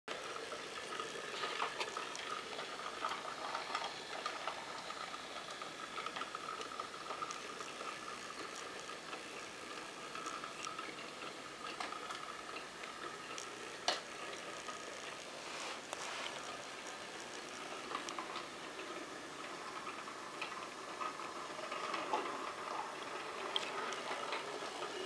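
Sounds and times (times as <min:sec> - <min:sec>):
toy train motor whirring: 0:00.1 - 0:25.0.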